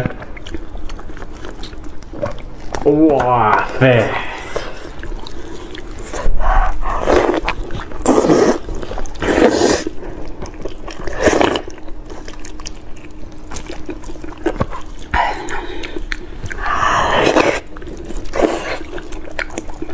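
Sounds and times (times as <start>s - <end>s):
wet chewing: 0.0s - 19.9s.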